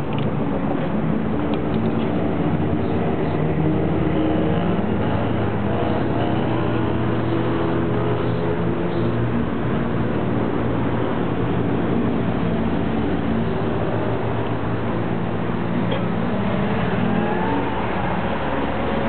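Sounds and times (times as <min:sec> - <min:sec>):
engine-like drone: 0:00.0 - 0:19.0.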